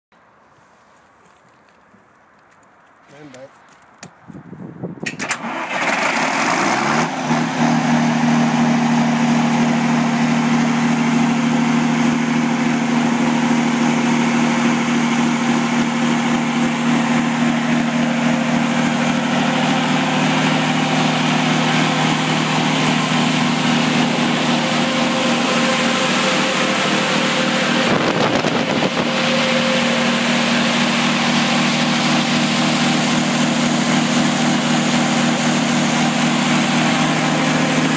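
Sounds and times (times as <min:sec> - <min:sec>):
diesel generator starting and running: 0:02.5 - 0:37.9.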